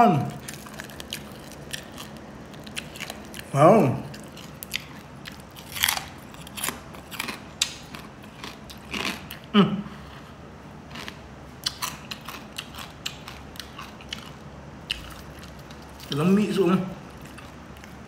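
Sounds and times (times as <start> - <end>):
crunchy food being chewed: 0.1 - 16.3, 16.9 - 18.0.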